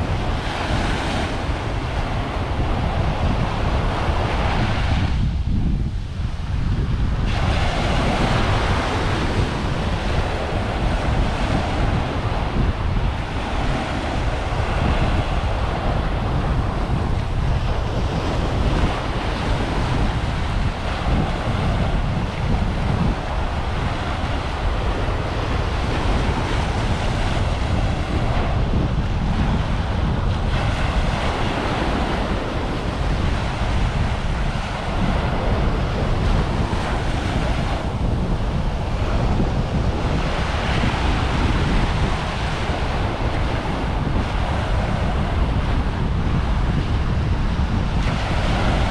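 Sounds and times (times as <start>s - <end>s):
small waves breaking on sand: 0.0s - 48.9s
wind buffeting microphone: 0.0s - 48.9s.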